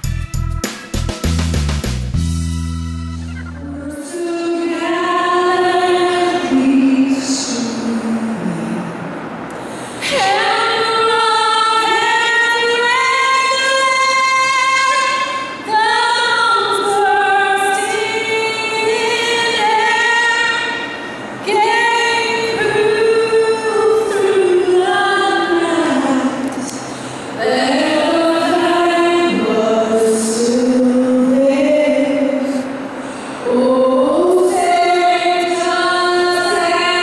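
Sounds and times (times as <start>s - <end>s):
woman singing: 3.6s - 9.0s, 10.0s - 26.8s, 27.4s - 32.7s, 33.4s - 37.0s.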